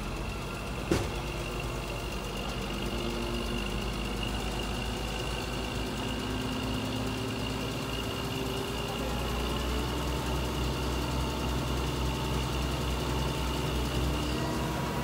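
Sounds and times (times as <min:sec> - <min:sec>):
heavy engines idling: 0:00.0 - 0:15.0.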